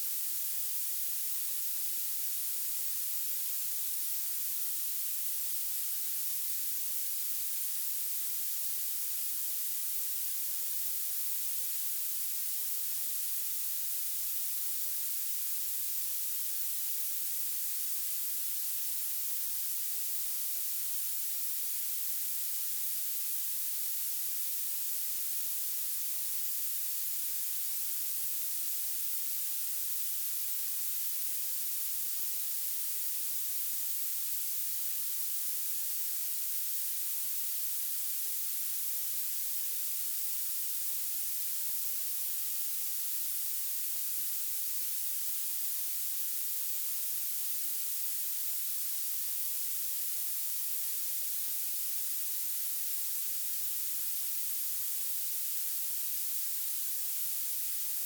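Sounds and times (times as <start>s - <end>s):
high-pitched steady hiss: 0.0s - 58.0s.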